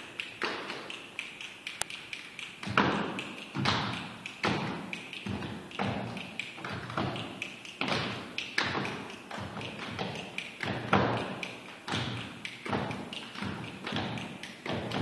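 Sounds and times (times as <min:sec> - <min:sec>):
group clapping and stomping: 0:02.0 - 0:15.0.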